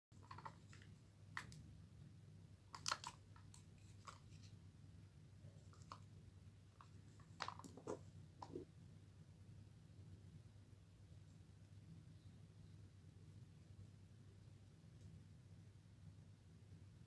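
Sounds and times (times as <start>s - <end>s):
low steady hum: 0.2s - 17.0s.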